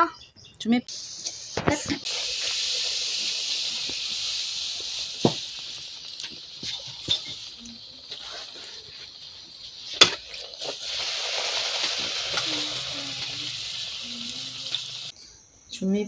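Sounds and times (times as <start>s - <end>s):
deep-frying sizzle: 0.9s - 15.1s.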